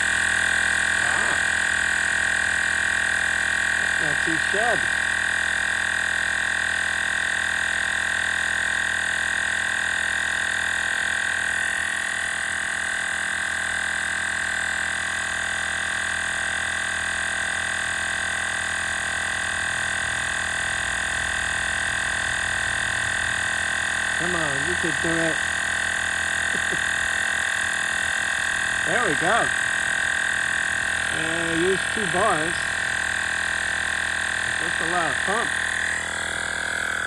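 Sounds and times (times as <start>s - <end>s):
tire inflator compressor whining: 0.0s - 37.0s.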